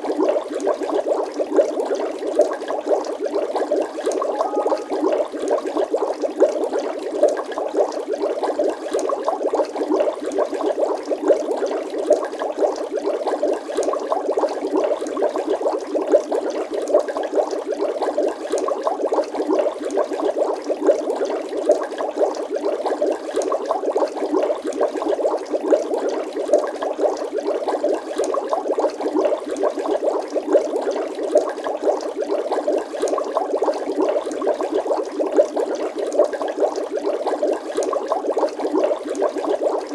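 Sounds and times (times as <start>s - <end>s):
water bubbling and gurgling: 0.0s - 39.9s.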